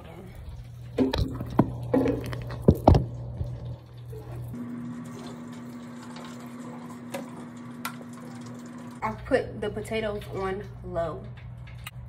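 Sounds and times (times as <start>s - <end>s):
water pouring into a metal sink: 0.8s - 10.7s.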